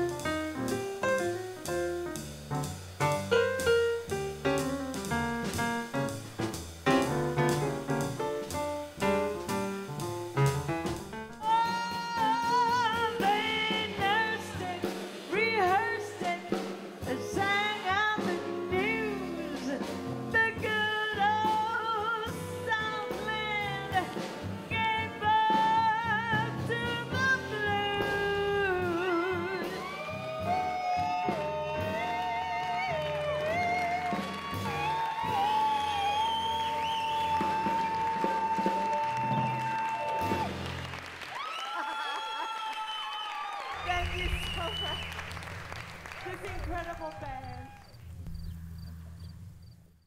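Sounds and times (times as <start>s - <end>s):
jazz-blues band playing: 0.0s - 41.3s.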